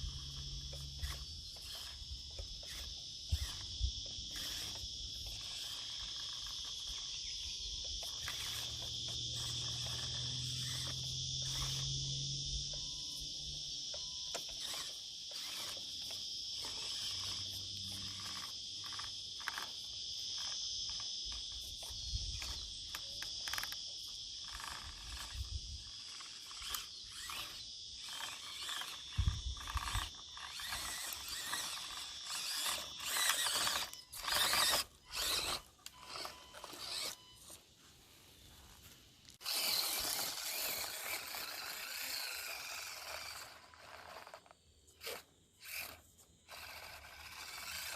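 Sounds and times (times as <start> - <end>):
toy car tyres scraping rock: 0.0 - 12.8, 13.9 - 37.6, 38.6 - 47.9
insects chirping: 0.0 - 47.9.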